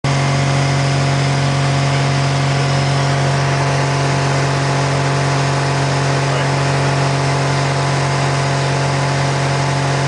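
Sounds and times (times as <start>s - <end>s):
aircraft piston engine droning: 0.2s - 10.0s.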